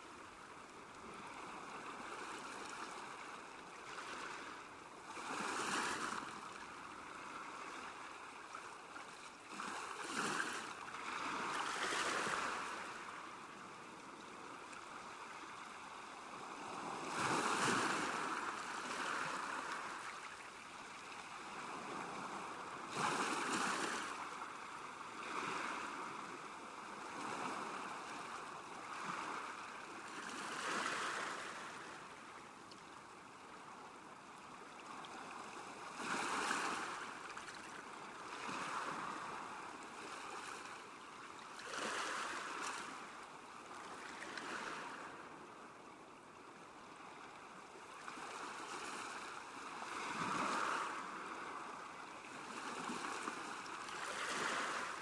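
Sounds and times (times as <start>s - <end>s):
small waves lapping at shore: 0.0s - 55.0s.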